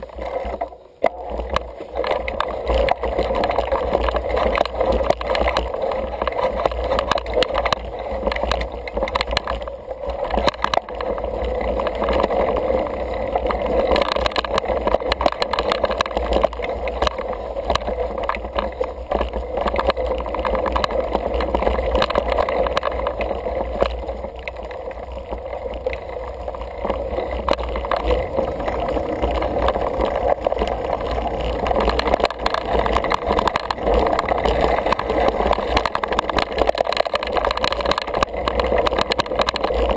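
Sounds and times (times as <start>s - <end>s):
bike clattering over bumps: 0.0s - 39.9s
bike tyres rolling on dirt: 0.0s - 39.9s.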